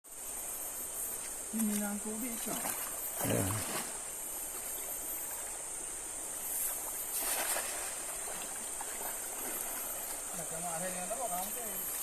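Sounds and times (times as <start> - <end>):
river water running: 0.1 - 12.0.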